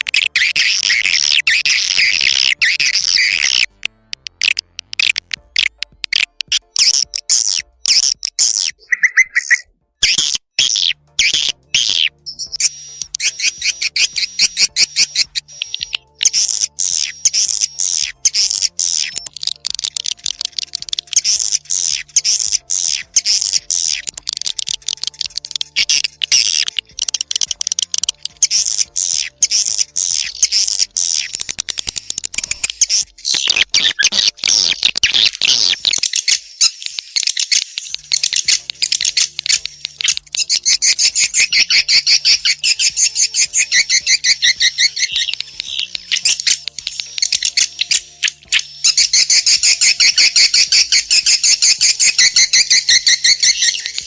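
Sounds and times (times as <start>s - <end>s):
rapid twittering bird trills: 0.0s - 54.0s.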